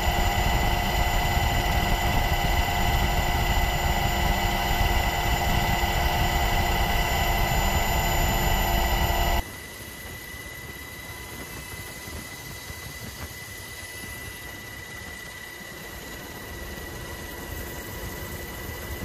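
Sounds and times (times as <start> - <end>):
aircraft engine rumble with whine: 0.0 - 19.0.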